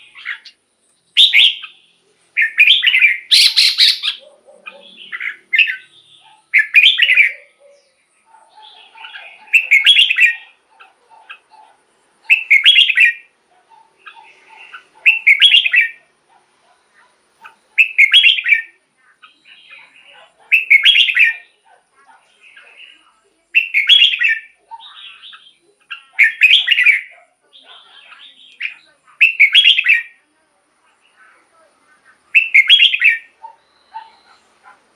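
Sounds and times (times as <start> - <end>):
bird warbling song: 0.0 - 16.0, 17.4 - 21.6, 22.2 - 30.2, 32.3 - 34.9
soft bird chattering calls: 0.0 - 16.2, 16.9 - 30.2, 31.0 - 34.9.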